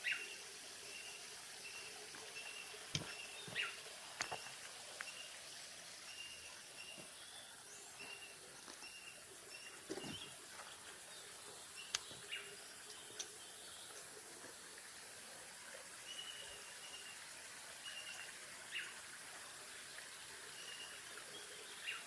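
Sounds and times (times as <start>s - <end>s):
running water hiss: 0.0s - 22.0s.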